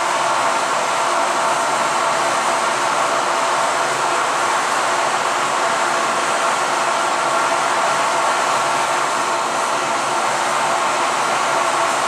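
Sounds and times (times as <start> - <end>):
cooling fans whirring: 0.0 - 12.0.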